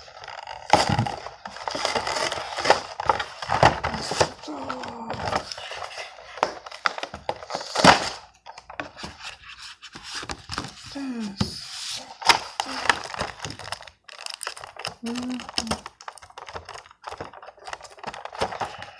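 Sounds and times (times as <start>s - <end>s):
plastic packaging crinkling and tearing: 0.0s - 8.8s, 11.8s - 18.9s.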